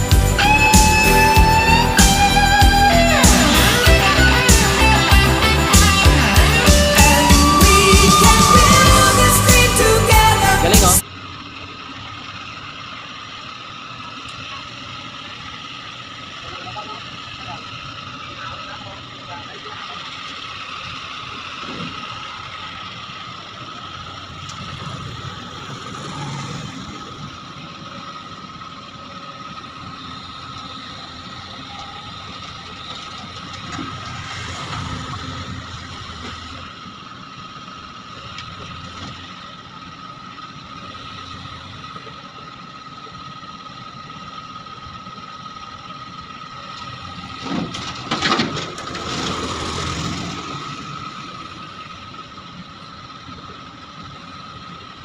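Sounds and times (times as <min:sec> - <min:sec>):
backhoe loader running: 0:00.0 - 0:55.0.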